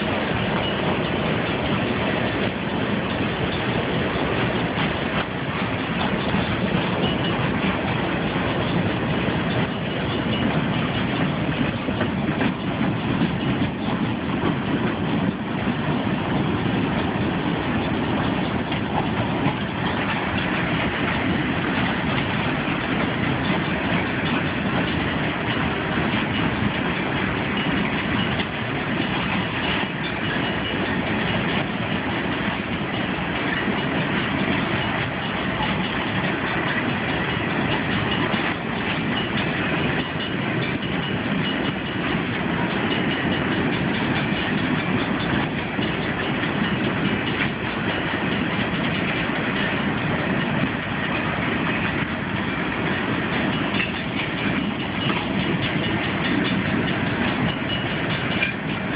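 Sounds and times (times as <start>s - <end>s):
freight train wheels on rails: 0.0s - 58.9s.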